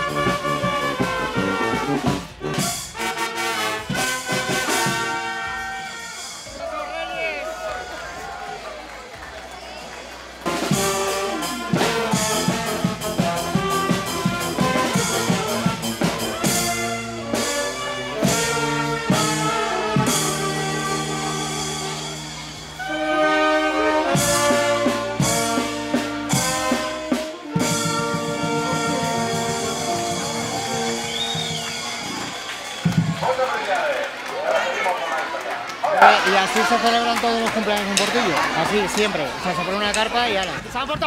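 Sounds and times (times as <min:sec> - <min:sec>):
brass band playing lively tune: 0:00.0 - 0:41.0.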